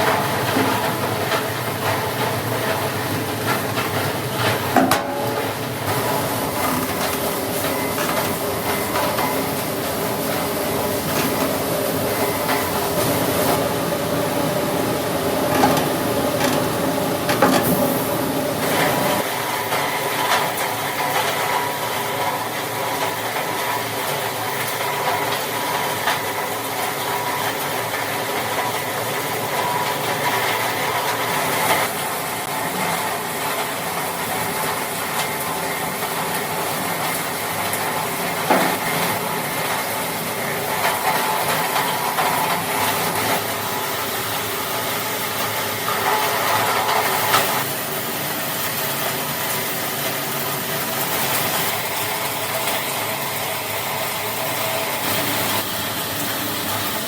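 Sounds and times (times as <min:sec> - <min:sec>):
factory machinery running: 0:00.0 - 0:57.0.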